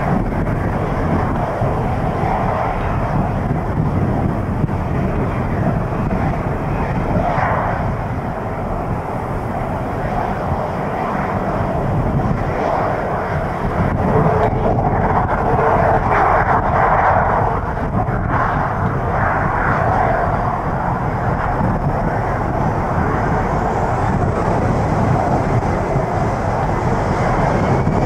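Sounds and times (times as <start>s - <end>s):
jet engines at taxi power: 0.0s - 28.0s
wind rumbling on microphone: 0.0s - 28.0s.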